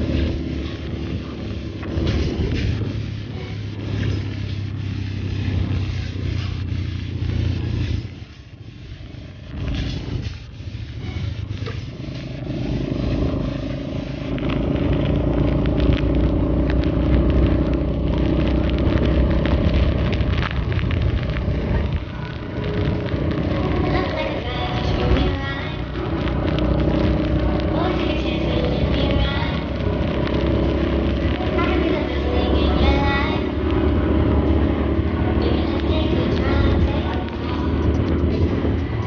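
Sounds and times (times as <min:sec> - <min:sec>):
car engine and tyres on wet road: 0:00.0 - 0:39.0
rain pattering on car: 0:00.0 - 0:39.0.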